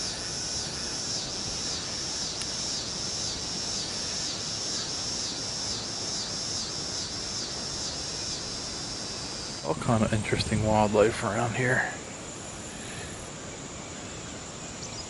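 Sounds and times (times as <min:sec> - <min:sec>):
insects singing in pulsing drone: 0:00.0 - 0:15.0
steady outdoor hiss: 0:00.0 - 0:15.0.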